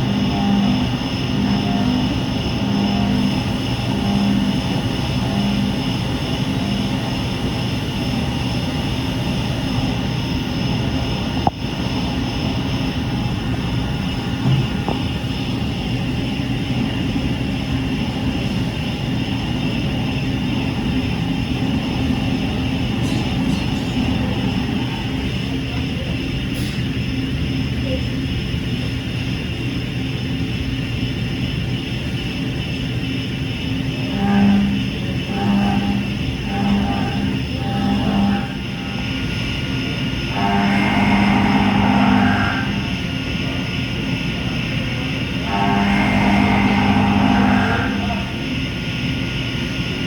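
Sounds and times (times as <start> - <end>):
milling machine running: 0.0 - 50.0.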